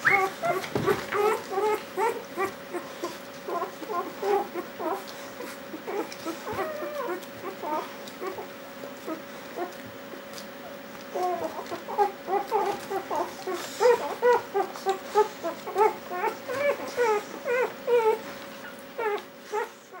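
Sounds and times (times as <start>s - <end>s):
puppies squeaking and whimpering: 0.0s - 20.0s.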